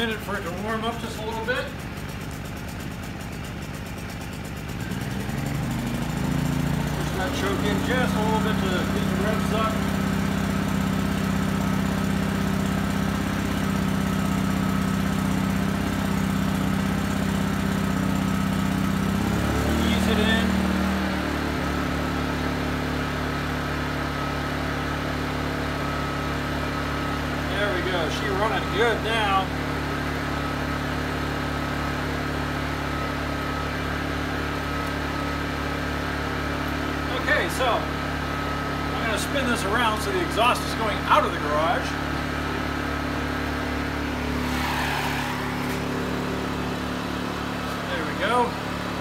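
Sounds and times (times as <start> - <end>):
generator engine running: 0.0 - 49.0.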